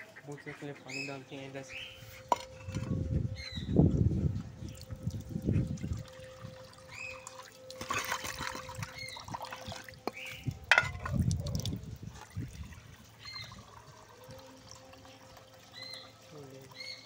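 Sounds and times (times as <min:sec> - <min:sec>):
water trickling into a clay bowl: 0:01.6 - 0:17.0.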